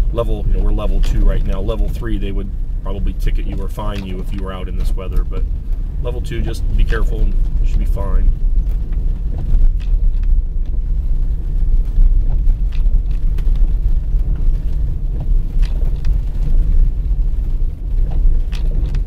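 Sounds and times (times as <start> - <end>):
car road rumble on snow: 0.0 - 19.0
faint clicks: 3.0 - 19.0.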